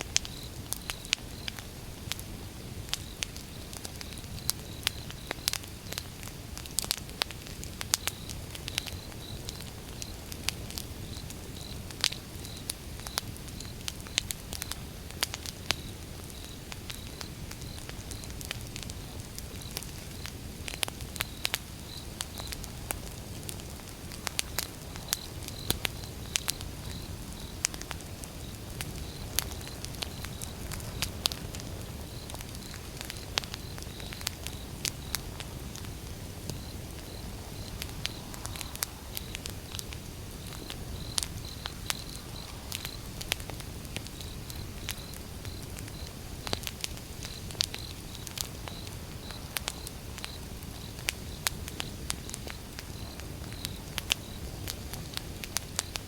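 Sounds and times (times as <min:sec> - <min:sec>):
low fire rumble and hiss: 0:00.0 - 0:56.0
wood fire crackling: 0:00.0 - 0:56.0.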